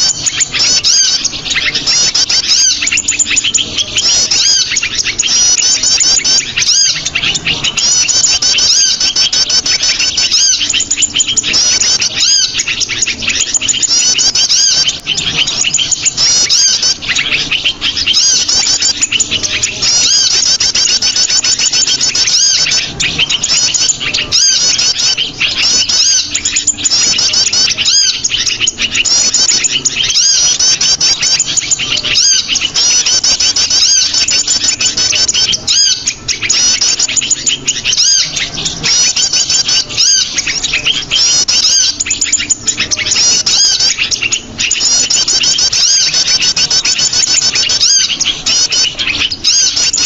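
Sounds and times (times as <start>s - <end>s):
small songbirds chirping: 0.0s - 50.0s.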